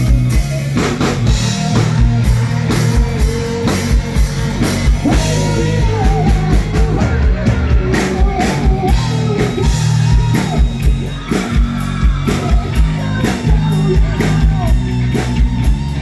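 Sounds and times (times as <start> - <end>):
drums keeping a beat: 0.0 - 16.0
guitar: 0.0 - 16.0
person singing: 1.2 - 16.0.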